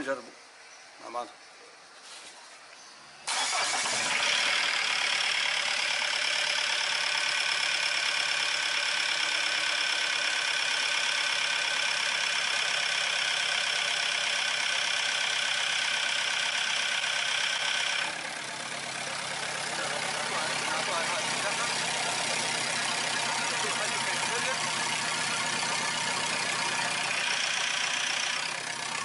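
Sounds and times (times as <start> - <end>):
diesel engine running: 3.3 - 29.0.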